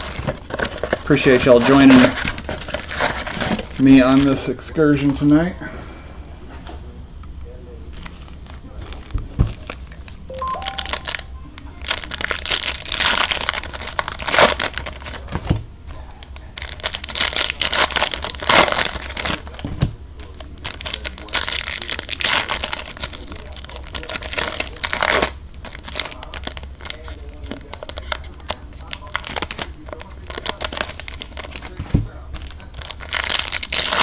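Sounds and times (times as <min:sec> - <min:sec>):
wrappers crinkling and tearing: 0:00.0 - 0:05.4, 0:07.9 - 0:34.0.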